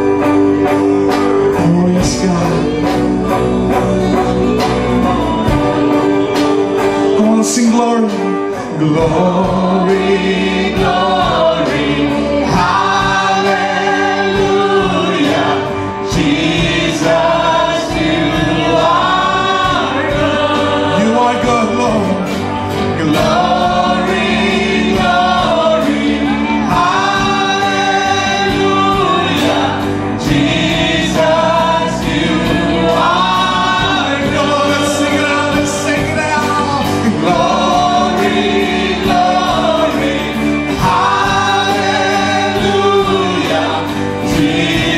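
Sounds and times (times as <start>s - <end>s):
amplified band accompaniment: 0.0s - 44.9s
singers singing together: 0.0s - 44.9s.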